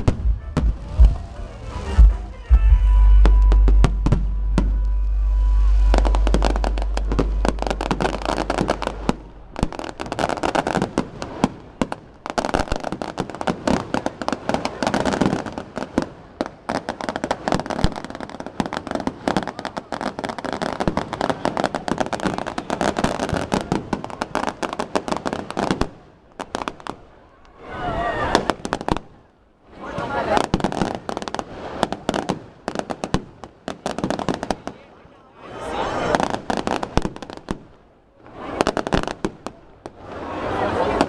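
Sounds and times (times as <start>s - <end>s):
fireworks bangs and crackles: 0.0s - 4.8s, 5.9s - 35.2s, 35.9s - 41.0s.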